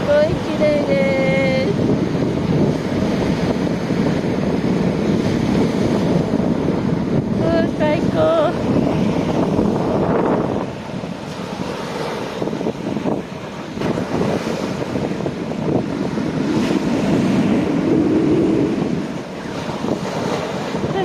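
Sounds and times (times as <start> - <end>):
waves washing onto a beach: 0.0 - 21.0
wind buffeting the microphone: 0.0 - 21.0.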